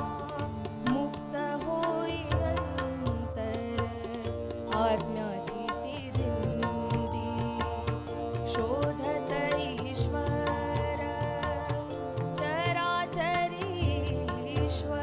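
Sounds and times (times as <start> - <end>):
hand drum rhythm: 0.0 - 15.0
person singing: 0.0 - 15.0
sustained instrumental notes: 0.0 - 15.0.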